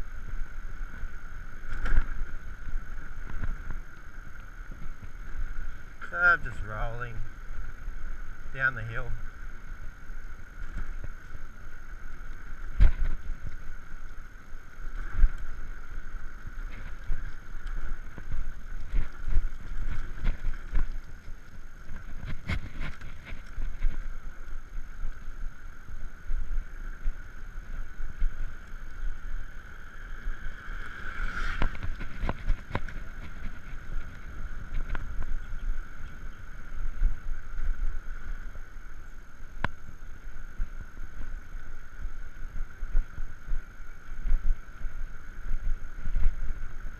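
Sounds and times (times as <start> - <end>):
tyres rumbling on road: 0.0 - 38.9.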